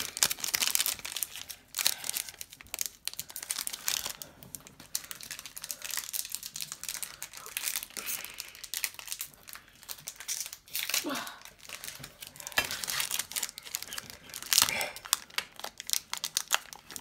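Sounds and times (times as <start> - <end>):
foil wrapper crinkling and tearing: 0.0 - 17.0.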